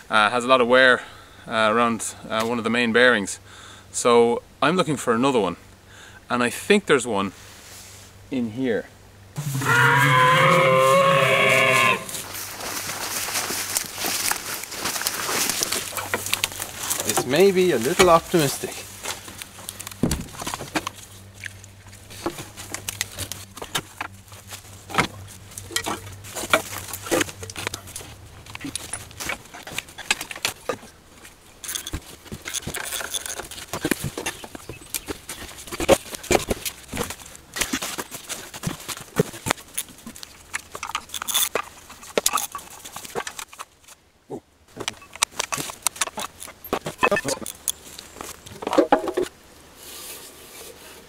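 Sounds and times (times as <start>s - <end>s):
rustling leaves and debris: 9.4s - 51.0s.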